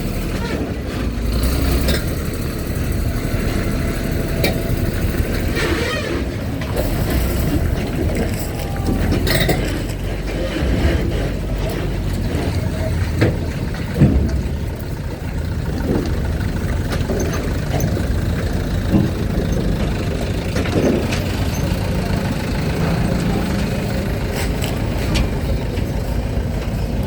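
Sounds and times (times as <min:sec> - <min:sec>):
truck and car engines rumbling: 0:00.0 - 0:27.0.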